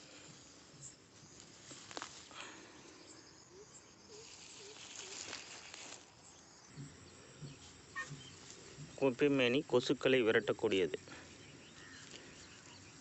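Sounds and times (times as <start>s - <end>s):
faint insects chirping in grass: 0.0s - 13.0s.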